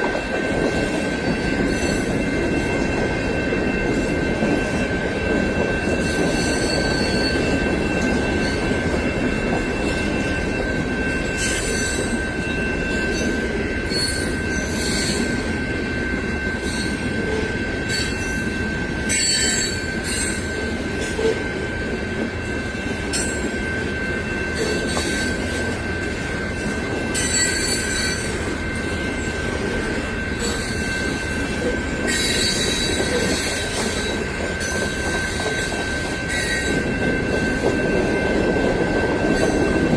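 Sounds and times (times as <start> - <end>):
freight train cars rumbling: 0.0 - 39.9
train wheel squeal: 0.0 - 39.9.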